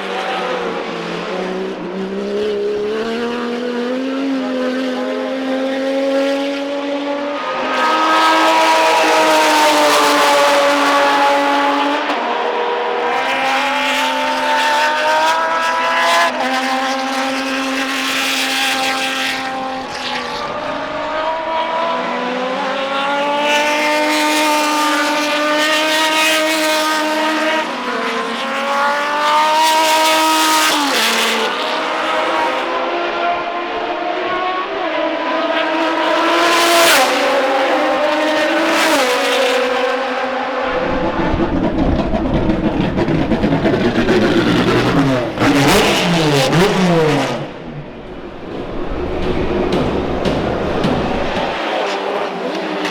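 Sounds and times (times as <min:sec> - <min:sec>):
race car engines revving hard: 0:00.0 - 0:52.9.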